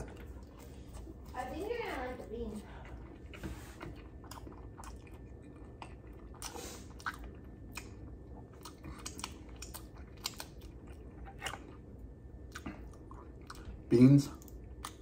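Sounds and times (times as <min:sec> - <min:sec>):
person chewing crunchy food: 0:00.0 - 0:01.4, 0:02.6 - 0:15.0.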